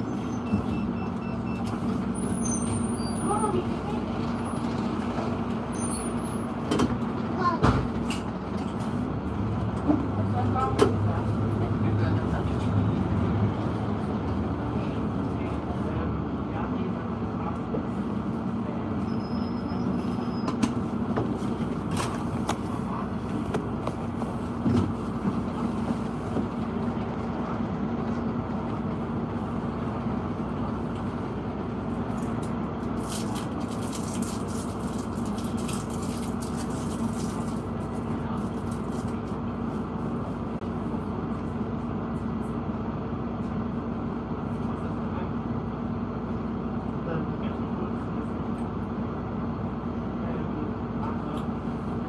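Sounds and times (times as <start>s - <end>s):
street traffic hum: 0.0s - 52.0s.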